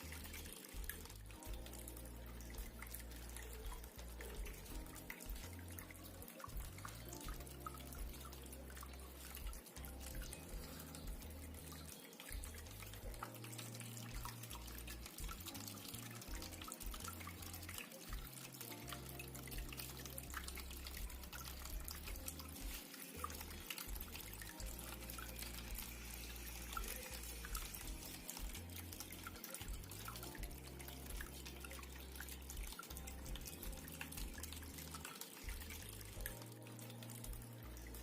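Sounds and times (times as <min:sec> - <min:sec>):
fountain water trickling: 0:00.0 - 0:38.0
small water drips: 0:00.0 - 0:38.0.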